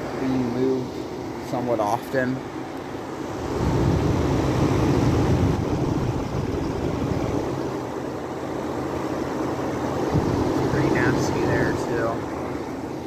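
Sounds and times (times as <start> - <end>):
compressor humming: 0.0 - 13.0
condenser fan rushing: 0.0 - 13.0.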